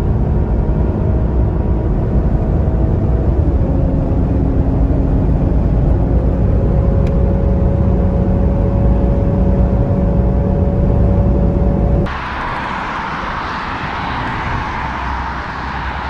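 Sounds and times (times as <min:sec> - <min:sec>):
engine hum: 0:00.0 - 0:16.0
road and wind noise: 0:00.0 - 0:16.0.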